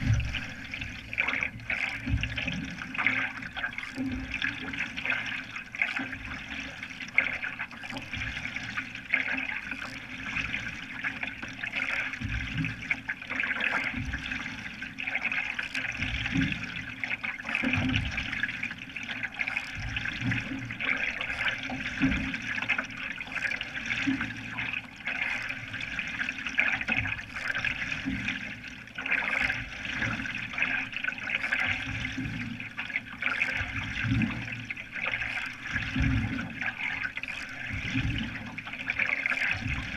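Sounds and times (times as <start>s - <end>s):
low paddle stroke pulses: 0.0s - 39.9s
water rushing around canoe: 0.0s - 39.9s.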